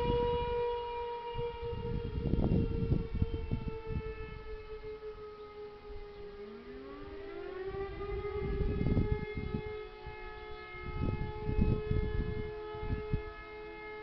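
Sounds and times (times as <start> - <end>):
civil defence siren steady tone: 0.0 - 14.0
second siren winding up: 0.0 - 14.0.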